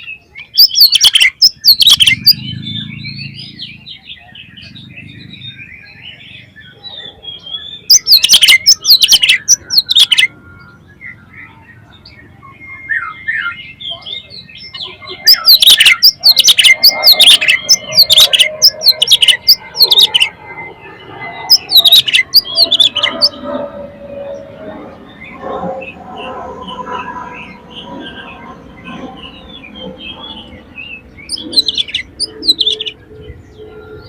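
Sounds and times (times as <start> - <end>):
soft bird twittering: 0.0 - 34.0.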